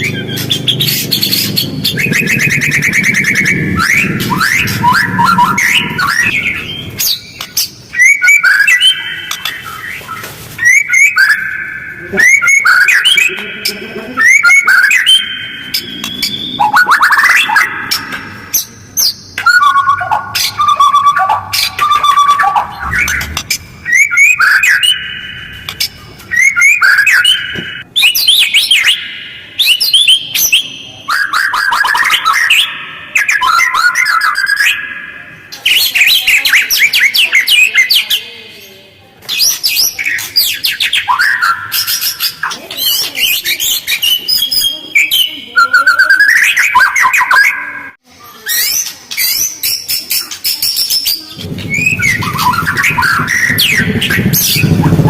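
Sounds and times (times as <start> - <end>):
bird singing chattering song: 0.0 - 38.4, 39.3 - 55.0.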